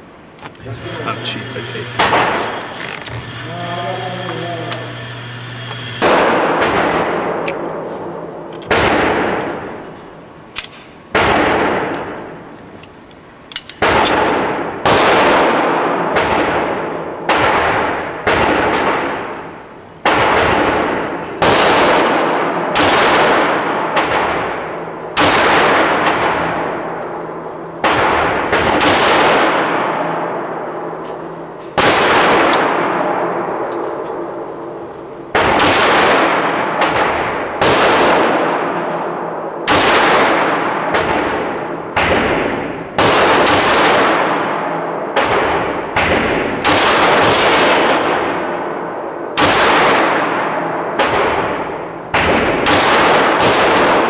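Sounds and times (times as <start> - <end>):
pistol shots reverberating: 6.0 - 9.8, 10.6 - 12.4, 13.8 - 34.7, 35.3 - 54.0.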